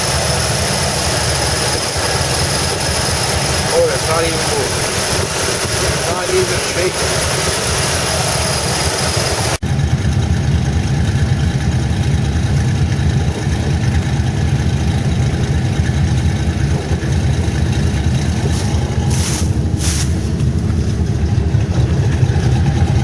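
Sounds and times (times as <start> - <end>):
engine idling low rumble: 0.0 - 23.0.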